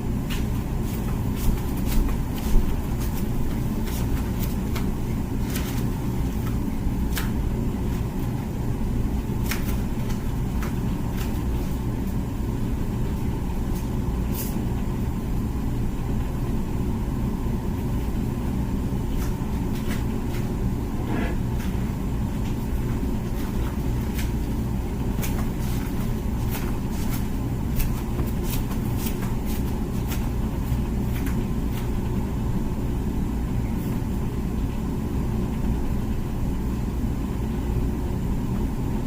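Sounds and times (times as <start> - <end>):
dishwasher humming: 0.0 - 39.0.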